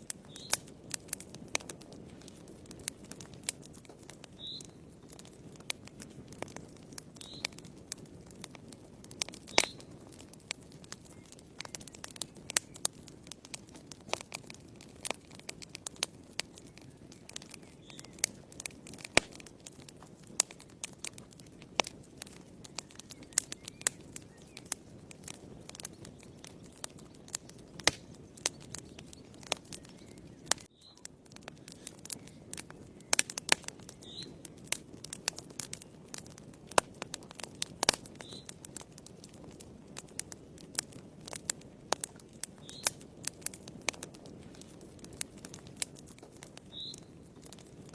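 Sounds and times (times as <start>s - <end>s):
low rush of burning: 0.0s - 47.9s
wood fire crackling: 0.0s - 47.9s.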